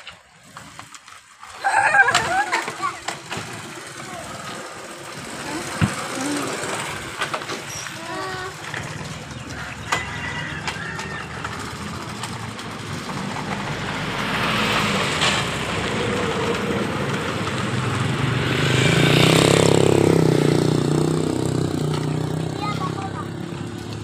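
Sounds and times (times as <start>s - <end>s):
vehicle engine running: 2.8s - 24.0s.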